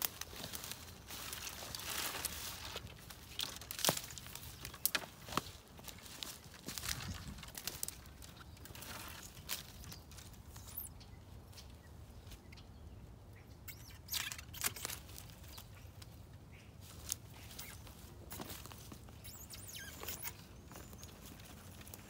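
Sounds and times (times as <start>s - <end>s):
footsteps in dry leaves: 0.0s - 11.5s, 14.6s - 22.0s.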